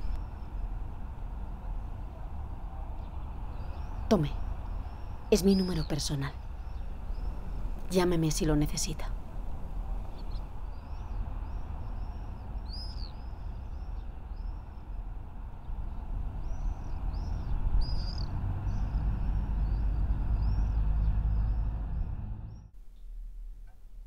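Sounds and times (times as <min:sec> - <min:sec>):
small birds chirping: 0:00.0 - 0:23.1
low rumble: 0:00.0 - 0:23.6.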